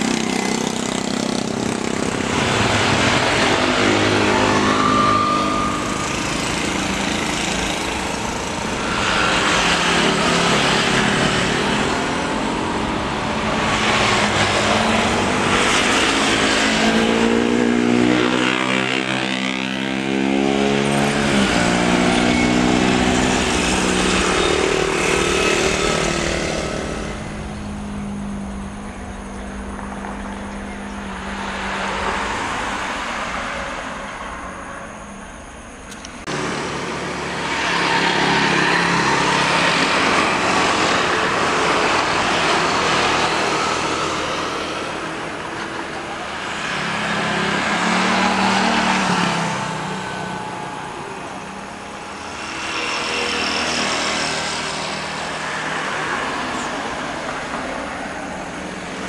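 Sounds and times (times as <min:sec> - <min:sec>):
jet engines roaring at takeoff: 0:00.0 - 0:59.0.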